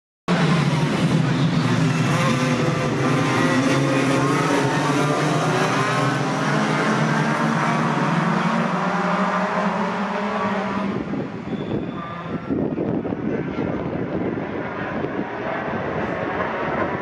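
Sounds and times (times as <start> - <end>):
racing truck engines: 0.3 - 17.0.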